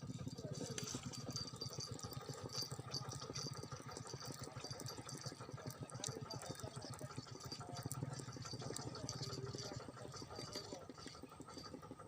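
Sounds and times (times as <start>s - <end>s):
small engine chugging: 0.0s - 12.0s
water: 0.0s - 12.0s.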